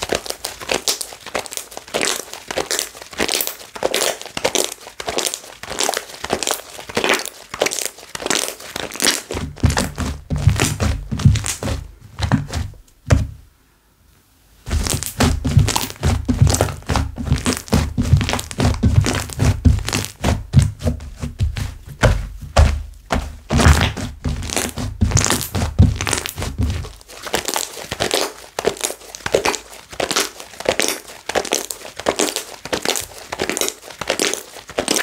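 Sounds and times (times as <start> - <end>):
slime squished by hand: 0.0 - 12.7, 14.7 - 20.9, 21.5 - 35.0.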